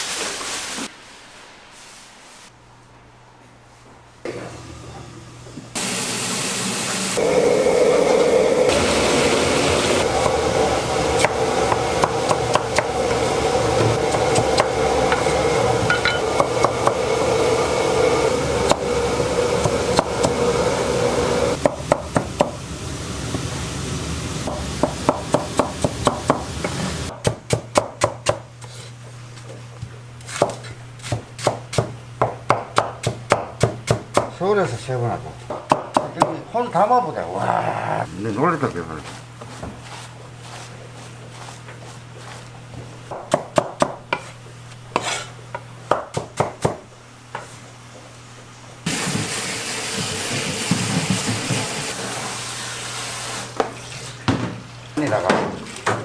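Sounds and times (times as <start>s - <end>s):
kitchen hum: 0.0s - 56.0s.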